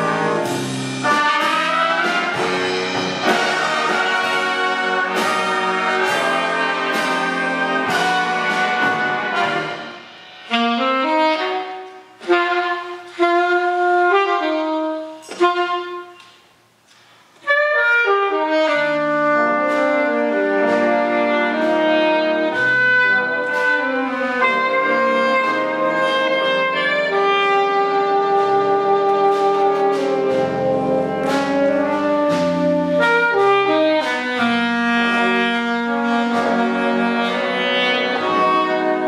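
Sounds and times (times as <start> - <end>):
jazz big band playing ballad: 0.0 - 39.0.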